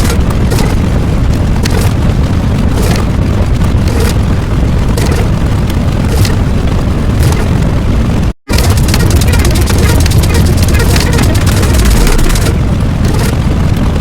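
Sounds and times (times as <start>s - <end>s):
continuous rumbling boom: 0.0s - 14.0s
crackles: 0.0s - 14.0s.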